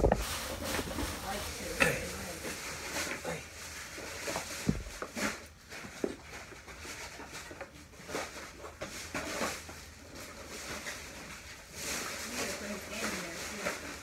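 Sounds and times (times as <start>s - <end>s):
rustling clothes in suitcase: 0.0s - 14.0s.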